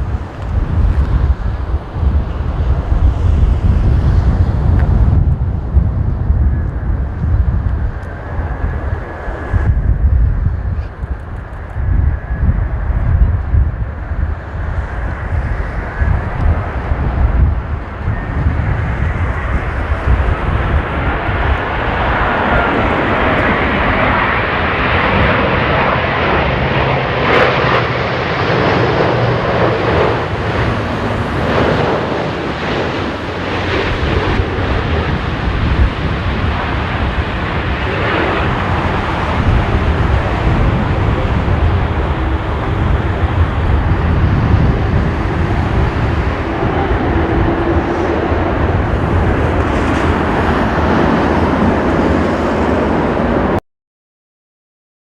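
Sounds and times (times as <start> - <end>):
jet engines running: 0.0 - 53.6
wind buffeting microphone: 0.0 - 53.6.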